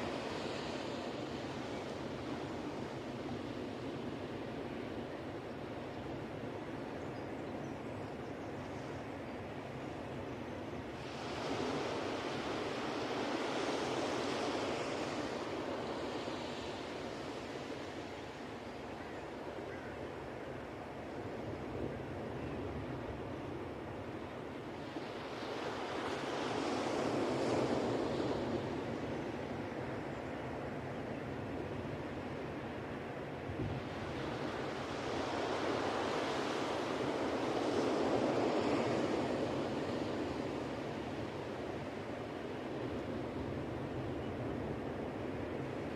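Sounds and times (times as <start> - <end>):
ocean waves breaking on beach: 0.0 - 7.0, 8.6 - 45.9.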